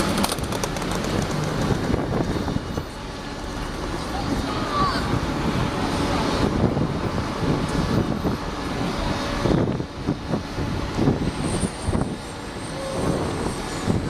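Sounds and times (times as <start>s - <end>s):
large vehicle engine rumble: 0.0s - 14.0s.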